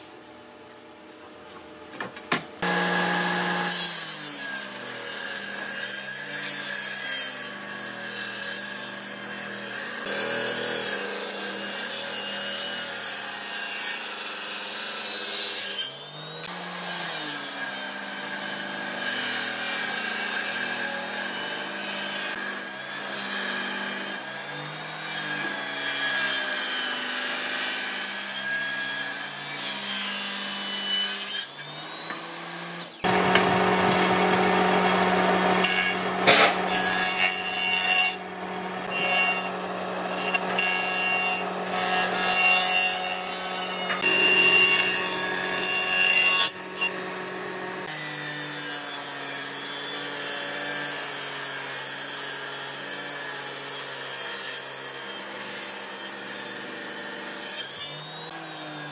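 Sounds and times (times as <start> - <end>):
jointer planing board: 1.2 - 58.9
table saw cutting wood: 2.6 - 58.9.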